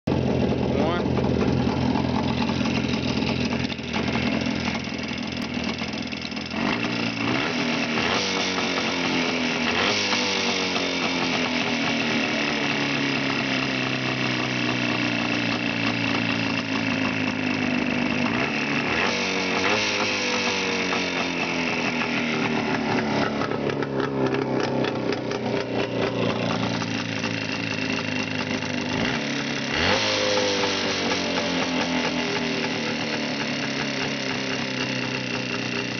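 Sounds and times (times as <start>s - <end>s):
knocking engine revving: 0.1s - 35.9s.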